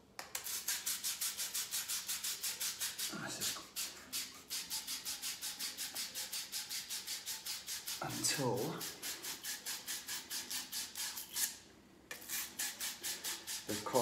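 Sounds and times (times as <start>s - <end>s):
pipe scrubbing rasping strokes: 0.4s - 14.0s.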